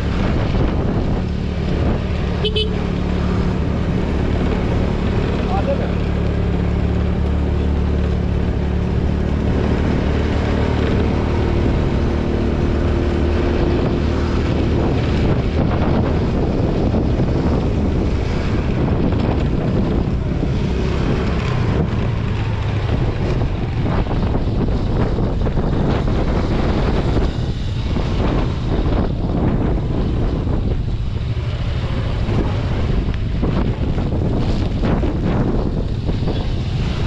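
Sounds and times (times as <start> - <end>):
road rush: 0.0 - 37.0
scooter engine hum: 0.0 - 37.0
wind noise on microphone: 0.0 - 37.0.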